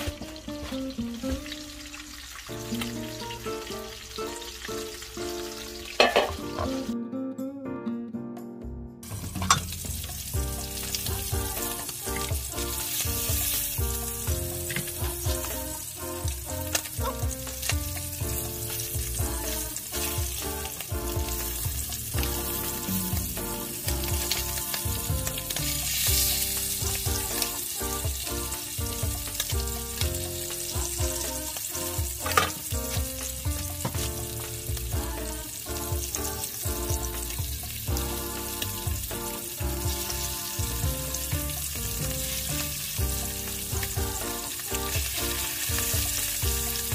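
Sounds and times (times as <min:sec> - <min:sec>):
fish sizzling in hot oil: 0:00.0 - 0:07.0, 0:09.0 - 0:46.9
background music with melody: 0:00.0 - 0:46.9.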